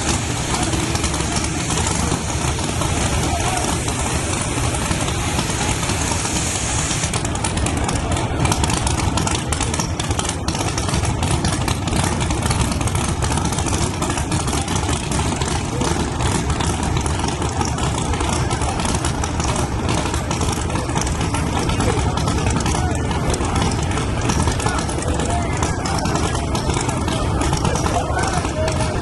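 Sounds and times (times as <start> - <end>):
engine crackling: 0.0 - 29.0
pickup engine idling: 0.0 - 29.0.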